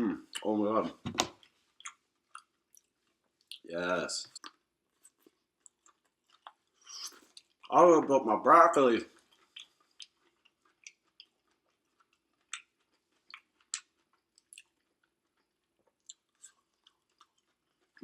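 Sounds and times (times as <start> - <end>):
faint chewing with mouth clicks: 0.2 - 7.8, 9.0 - 18.0.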